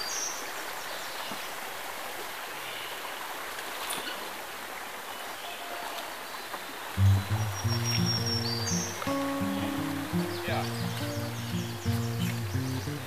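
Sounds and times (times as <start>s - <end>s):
flowing water: 0.0s - 13.0s.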